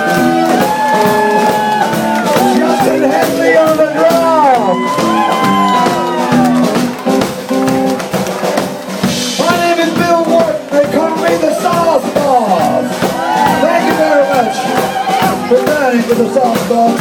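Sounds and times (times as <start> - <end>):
drum kit: 0.0 - 17.0.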